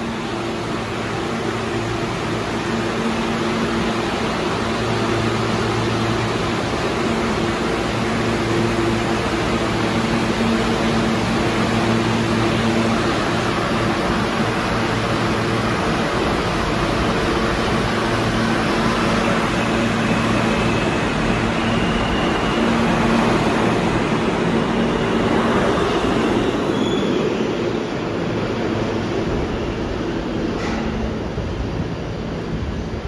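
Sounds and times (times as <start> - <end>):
subway train wheels and motors: 0.0 - 33.0.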